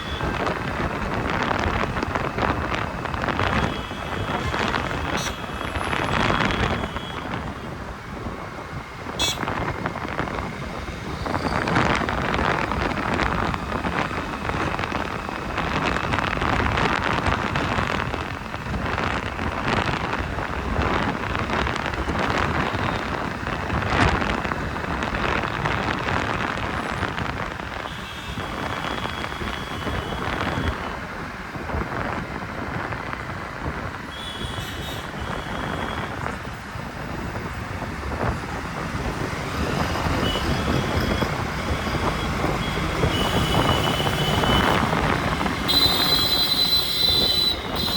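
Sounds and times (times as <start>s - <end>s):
road traffic: 0.0s - 47.9s
wind noise: 0.0s - 47.9s.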